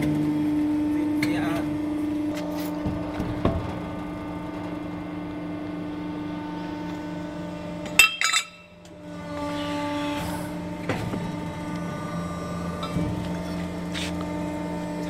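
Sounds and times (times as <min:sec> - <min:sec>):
hydraulic pump humming: 0:00.0 - 0:15.0.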